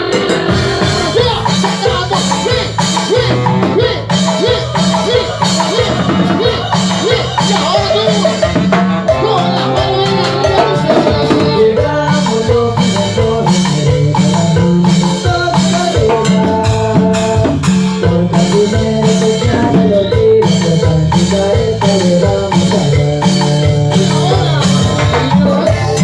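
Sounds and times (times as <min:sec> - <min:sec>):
band playing dance music: 0:00.0 - 0:26.0.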